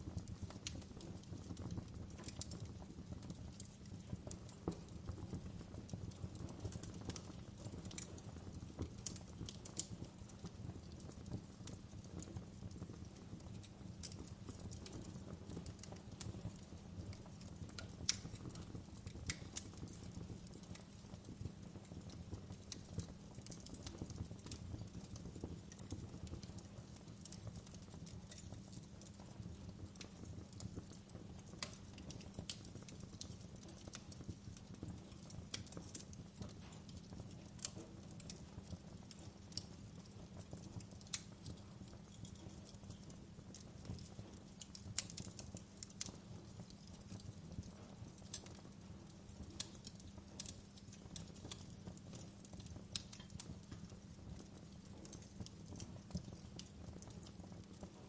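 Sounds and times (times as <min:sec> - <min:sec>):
low rumble of fire: 0:00.0 - 0:58.0
wood fire popping and snapping: 0:00.0 - 0:58.0.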